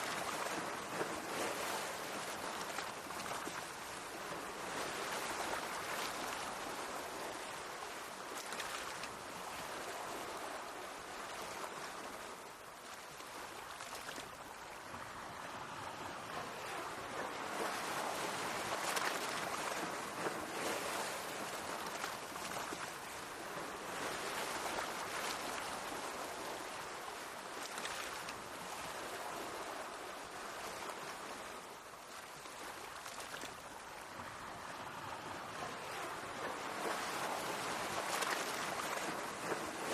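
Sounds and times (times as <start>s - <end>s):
sea waves washing against shore: 0.0s - 39.9s.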